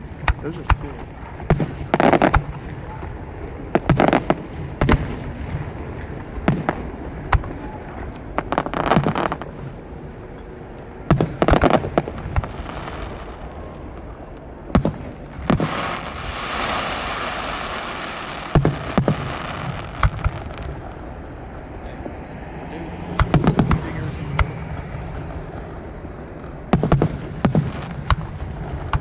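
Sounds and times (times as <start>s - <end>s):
fireworks bangs: 0.0s - 29.0s
fireworks hissing crackle: 0.0s - 29.0s.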